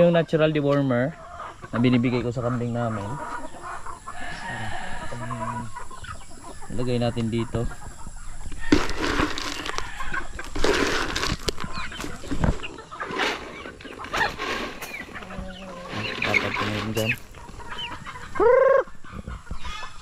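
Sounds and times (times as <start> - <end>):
chickens clucking and squawking: 0.0 - 20.0.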